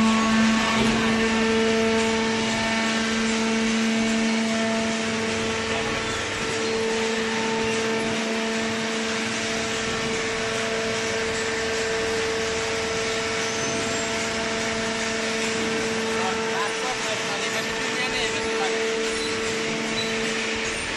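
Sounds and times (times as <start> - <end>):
baler motor humming: 0.0 - 20.9.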